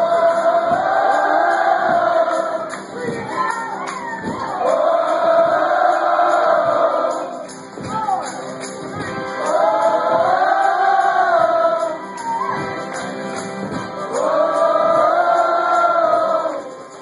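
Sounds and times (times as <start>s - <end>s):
voices singing together: 0.0s - 7.8s, 9.0s - 17.0s
acoustic guitar: 0.0s - 17.0s.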